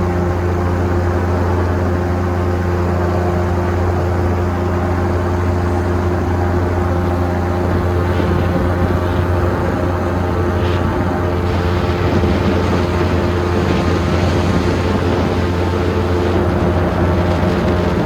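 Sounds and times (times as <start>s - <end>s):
propeller aircraft engine drone: 0.0s - 18.0s.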